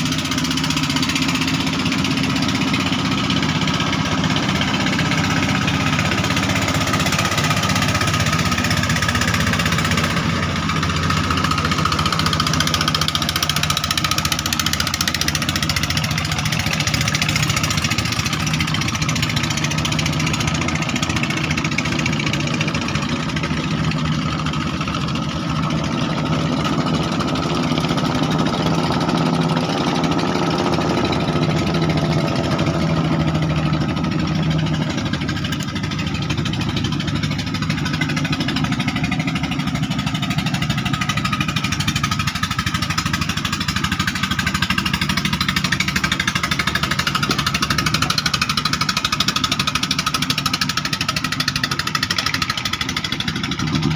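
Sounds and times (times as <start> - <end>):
boat engine running: 0.0 - 53.9
second engine: 0.0 - 53.9.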